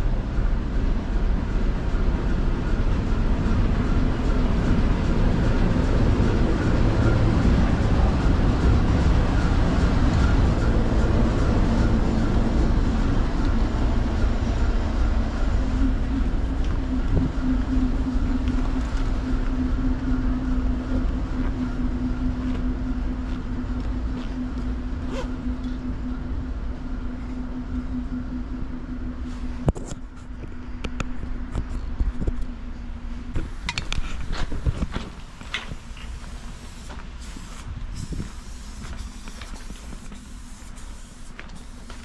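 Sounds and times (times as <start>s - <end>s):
freight train rumbling: 0.0s - 42.0s
steady droning hum: 0.0s - 42.0s.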